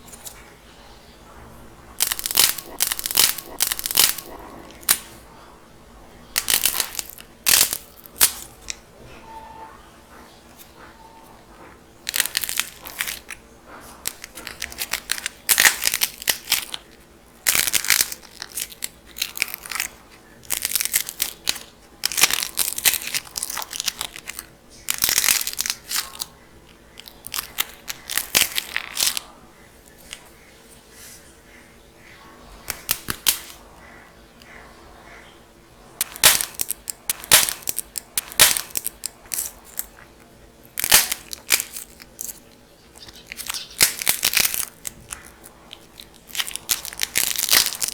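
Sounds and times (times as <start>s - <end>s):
dried clay crackling: 0.0s - 8.9s, 11.7s - 47.9s.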